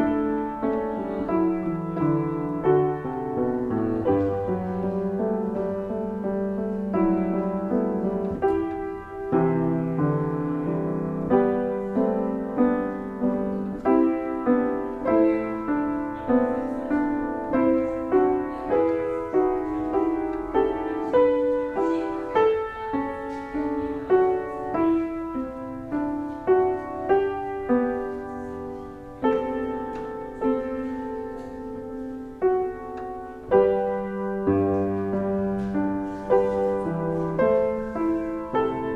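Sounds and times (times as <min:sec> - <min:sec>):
slow solo piano piece: 0:00.0 - 0:38.9.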